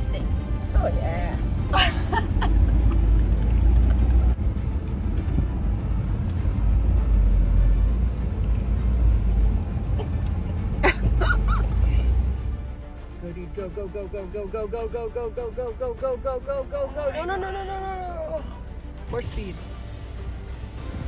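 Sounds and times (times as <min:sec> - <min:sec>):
off-road truck rumbling: 0:00.0 - 0:21.0.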